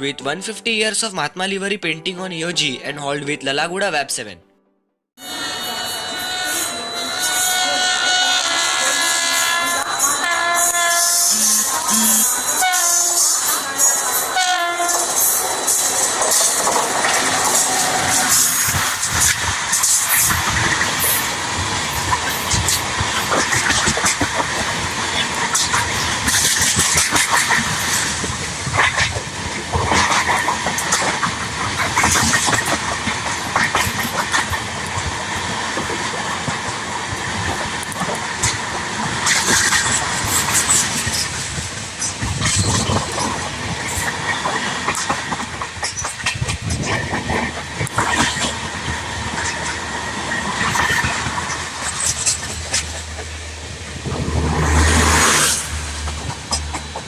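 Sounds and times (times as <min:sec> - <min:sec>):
train rolling rush: 0:05.2 - 0:57.0
train wheels clattering: 0:10.1 - 0:57.0.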